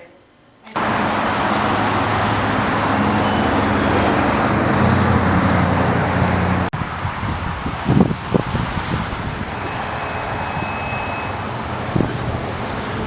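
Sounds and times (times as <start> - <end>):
road traffic noise: 0.7 - 13.0.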